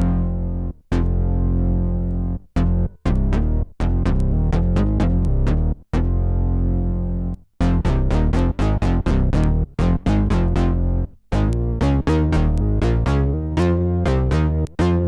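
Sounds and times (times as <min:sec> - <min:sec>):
synth bass notes: 0:00.0 - 0:15.0.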